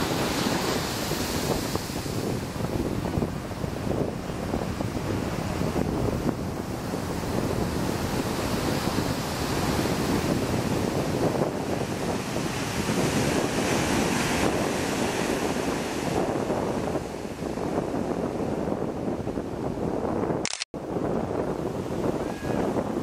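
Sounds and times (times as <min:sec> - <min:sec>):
ocean surf breaking on beach: 0:00.0 - 0:23.0
wind rumbling on microphone: 0:00.0 - 0:23.0.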